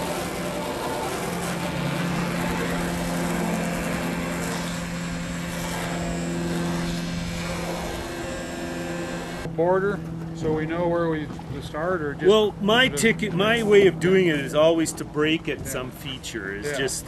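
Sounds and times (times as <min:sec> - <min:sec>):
engine humming: 0:00.0 - 0:17.0
steady rushing noise: 0:00.0 - 0:17.0.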